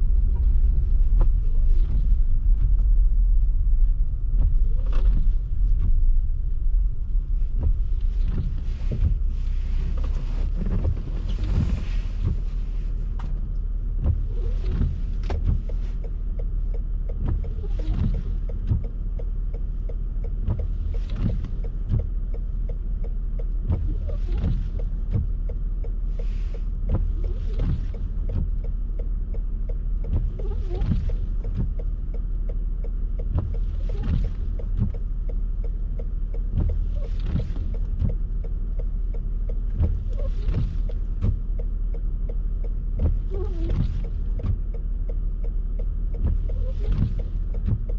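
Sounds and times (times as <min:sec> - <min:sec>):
car engine and road rumble: 0:00.0 - 0:47.9
windshield wipers swishing: 0:00.0 - 0:47.9.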